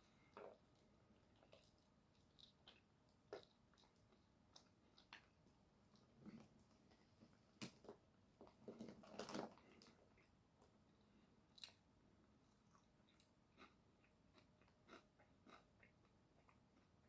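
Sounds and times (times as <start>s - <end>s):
faint wet chewing: 0.1s - 10.4s, 11.5s - 17.0s.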